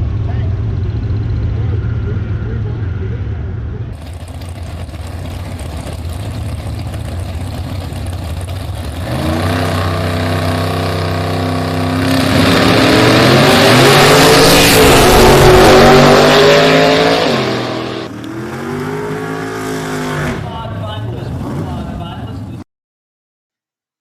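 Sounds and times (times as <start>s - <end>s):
race car engine revving: 0.0s - 22.4s.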